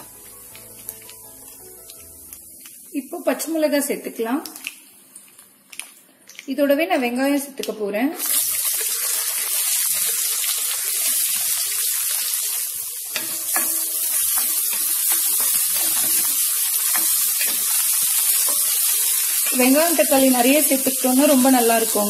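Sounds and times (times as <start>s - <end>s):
onion sizzling in hot oil: 0.0s - 4.7s, 8.2s - 22.0s.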